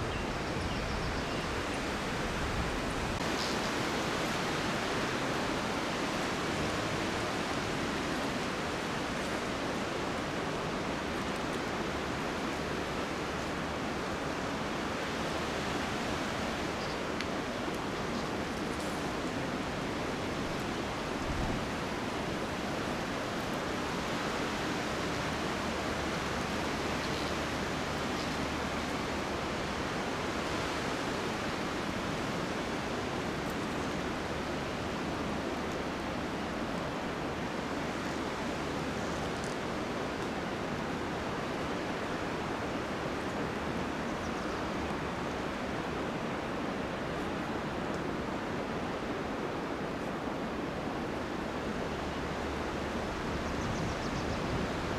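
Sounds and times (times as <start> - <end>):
wind rushing through pine trees: 0.0 - 54.9.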